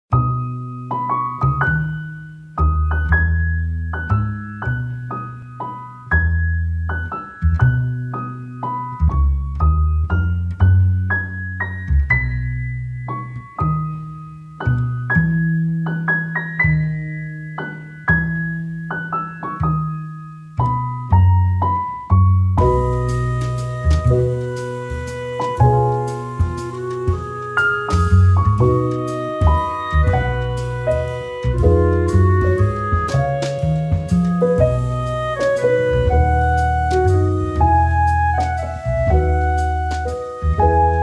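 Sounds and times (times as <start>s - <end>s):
piano music: 0.1s - 41.0s.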